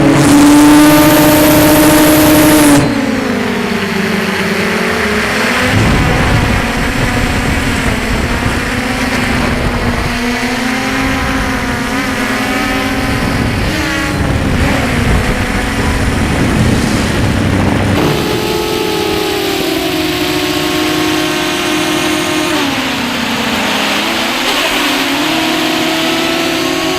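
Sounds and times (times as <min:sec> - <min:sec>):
drone propellers humming: 0:00.0 - 0:26.9.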